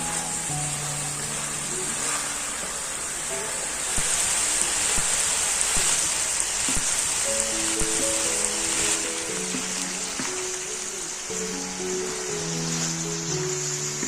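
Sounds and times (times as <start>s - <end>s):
soft background music: 0.0s - 5.2s, 6.8s - 14.0s
food sizzling in a pan: 0.0s - 14.0s.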